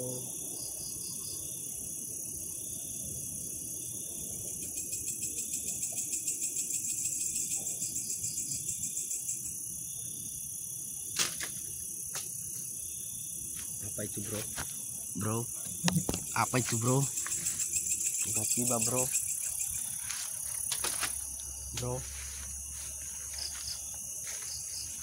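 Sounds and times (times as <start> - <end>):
insect chorus shrilling: 0.0 - 25.0
pulsing insect trill: 0.0 - 25.0.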